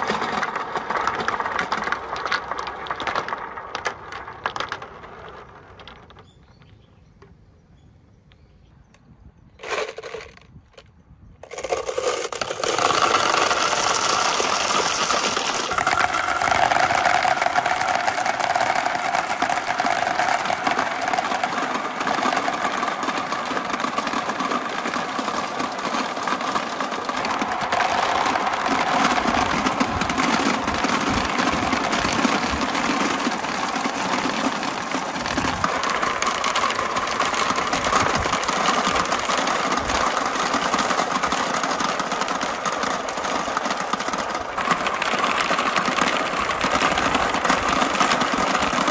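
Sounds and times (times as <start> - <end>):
glass marbles rattling down chute: 0.0 - 6.4, 11.4 - 48.9.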